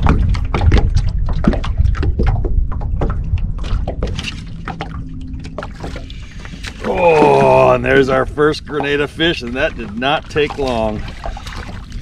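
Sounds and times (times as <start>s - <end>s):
water slapping boat hull: 0.0s - 12.0s
wind rumble on microphone: 0.0s - 12.0s.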